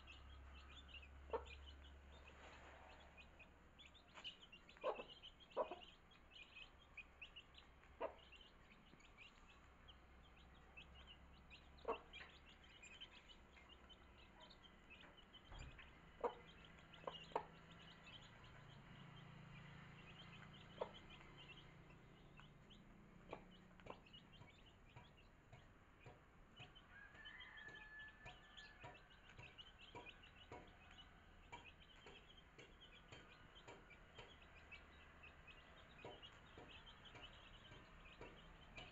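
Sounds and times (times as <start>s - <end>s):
beaks pecking grain: 0.0s - 38.9s
chicks peeping: 0.0s - 38.9s
hen clucking: 0.0s - 38.9s.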